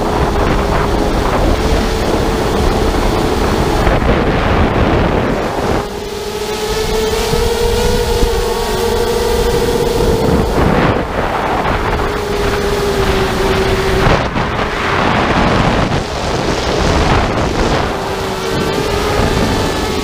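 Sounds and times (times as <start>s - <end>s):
drone motors humming: 0.0s - 20.0s
wind rush on microphone: 0.0s - 20.0s.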